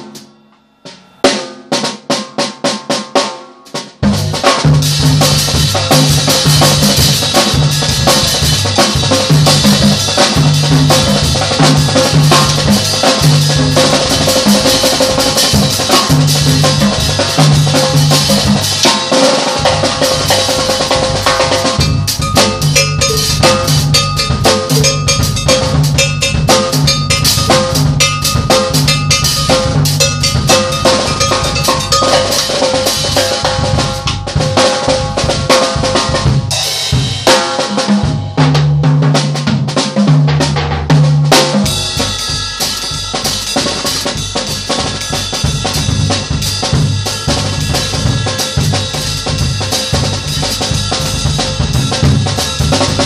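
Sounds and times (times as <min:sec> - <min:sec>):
drum kit groove: 0:00.0 - 0:00.3, 0:00.9 - 0:53.0
backing track with bass: 0:04.0 - 0:53.0.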